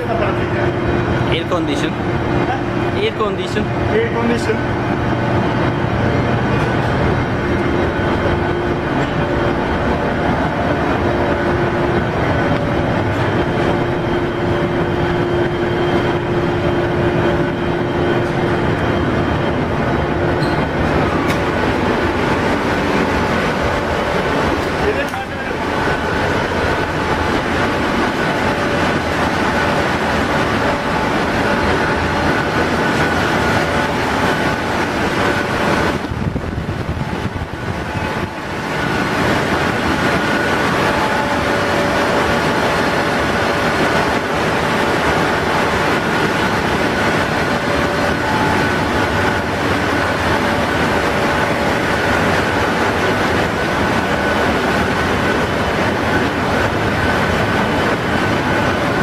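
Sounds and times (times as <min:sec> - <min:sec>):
constant whining tones: 0:00.0 - 0:59.0
engine room machinery running: 0:00.0 - 0:59.0.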